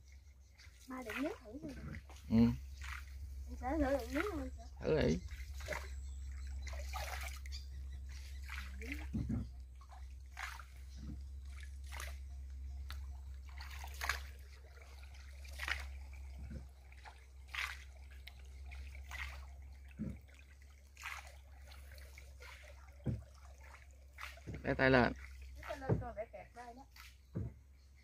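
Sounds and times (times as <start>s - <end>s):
water splashing against boat: 0.0s - 28.0s.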